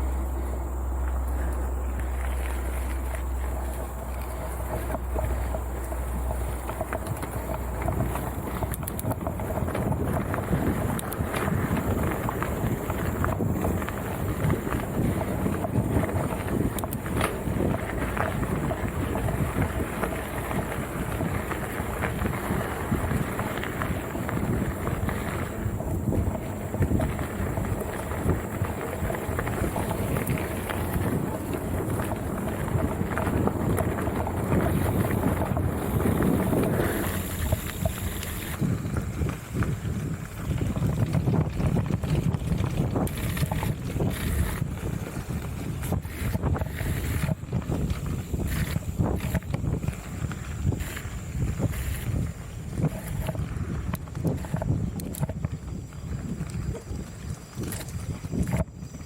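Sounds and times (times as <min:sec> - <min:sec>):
bike rattles and knocks: 0:00.0 - 0:59.0
wind buffeting microphone: 0:00.0 - 0:59.0.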